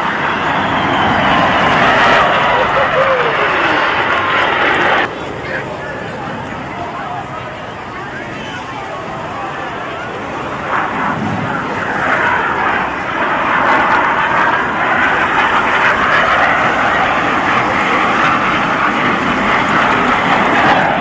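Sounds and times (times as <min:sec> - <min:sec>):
jets passing low: 0:00.0 - 0:21.0.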